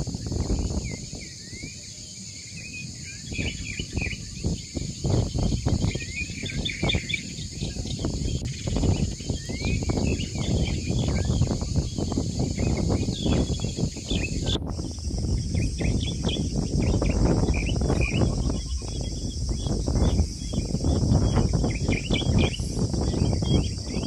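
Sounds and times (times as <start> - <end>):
low rumbling noise: 0.0 - 24.0
small birds chirping: 0.0 - 24.0.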